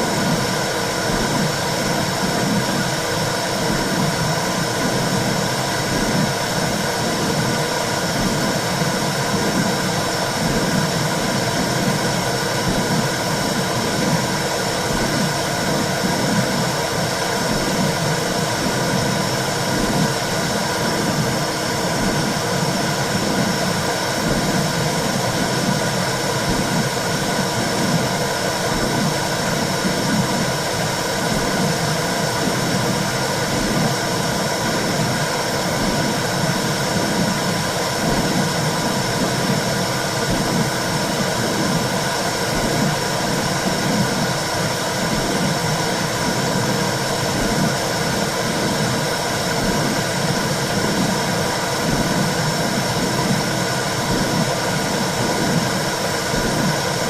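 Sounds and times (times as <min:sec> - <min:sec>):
heartbeat-like pulse: 0:00.0 - 0:57.0.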